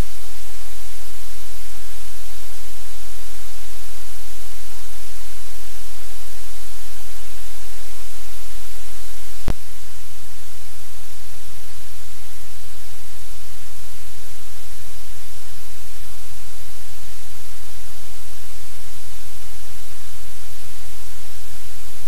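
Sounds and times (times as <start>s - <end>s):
loud steady hiss: 0.0s - 22.0s.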